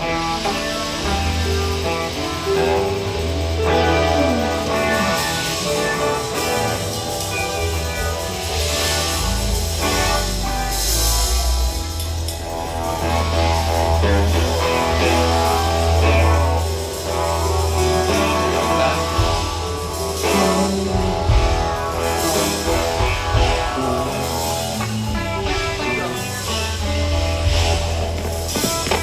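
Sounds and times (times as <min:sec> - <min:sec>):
electric guitars playing: 0:00.0 - 0:29.0
sustained low bass: 0:00.0 - 0:29.0.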